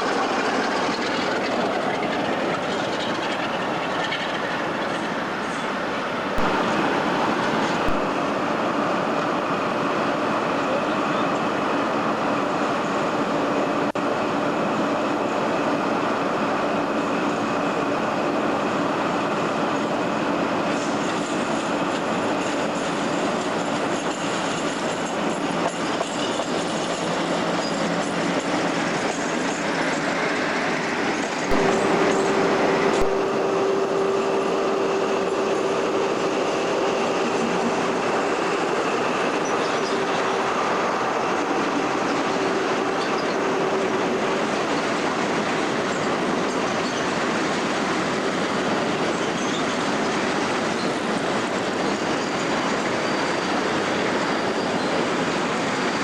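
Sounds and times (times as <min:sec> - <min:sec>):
freight train rolling past: 0:00.0 - 0:56.0
steady whine: 0:00.0 - 0:56.0.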